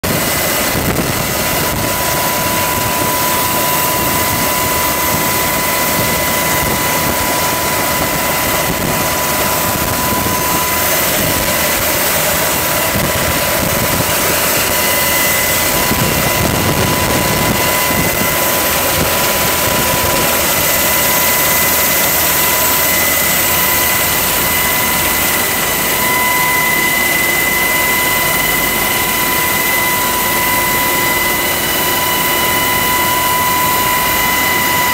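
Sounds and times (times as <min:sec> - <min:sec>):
helicopter rotor and engine noise: 0:00.0 - 0:34.9
high-pitched whine: 0:00.0 - 0:34.9.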